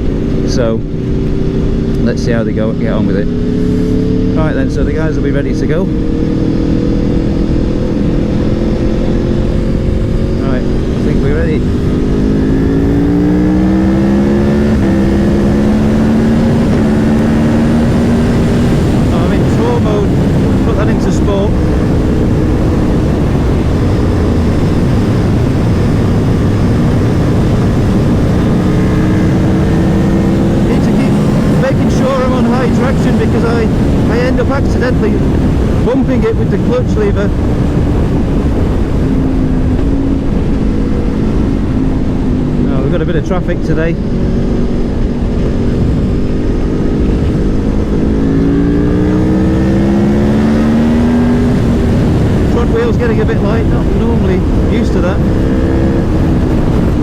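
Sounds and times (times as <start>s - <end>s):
motorcycle engine running: 0.0s - 57.0s
rush of noise: 0.0s - 57.0s
wind rumble on microphone: 0.0s - 57.0s.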